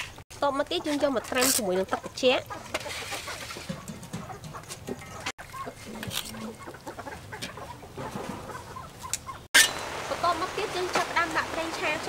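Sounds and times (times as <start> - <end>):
chickens clucking: 0.4 - 12.0.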